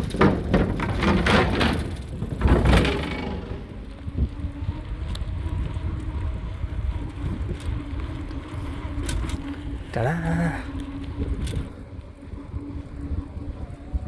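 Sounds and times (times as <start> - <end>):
bicycle tyre noise: 0.0 - 14.0
wind rumbling on microphone: 0.0 - 14.0.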